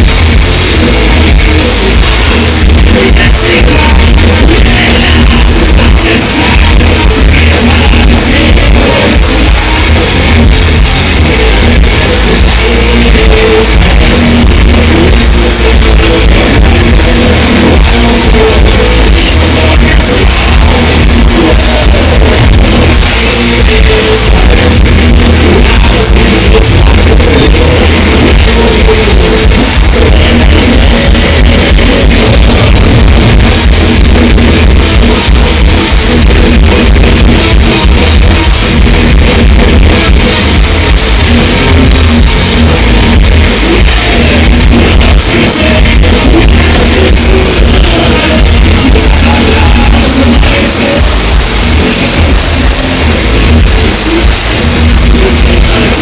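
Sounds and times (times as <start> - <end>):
metal band playing live: 0.0 - 56.0.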